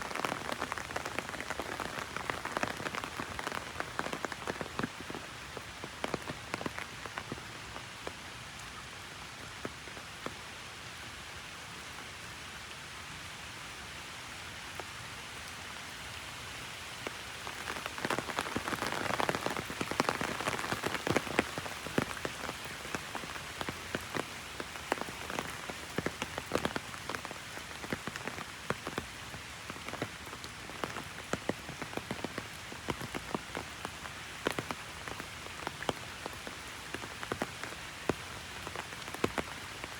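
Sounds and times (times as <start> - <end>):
heavy rain on umbrella: 0.0 - 10.9, 14.6 - 39.9.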